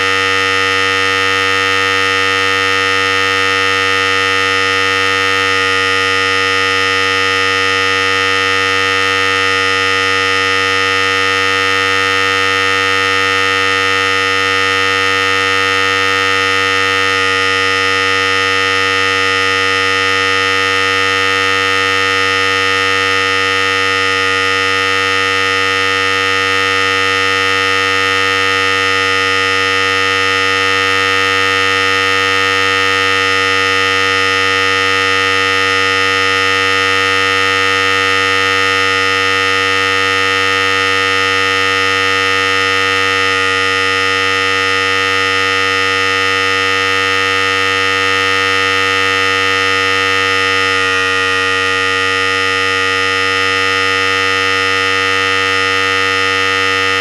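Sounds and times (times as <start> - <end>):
hair clipper running: 0.0 - 0.7, 11.4 - 57.0.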